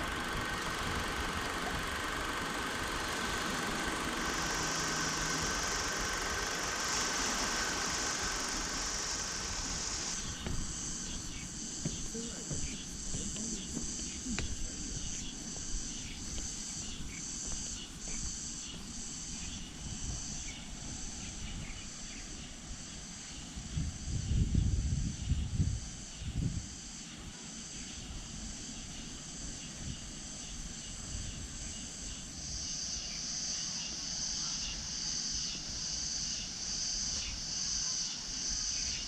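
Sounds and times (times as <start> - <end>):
cicadas buzzing: 0.0 - 39.0.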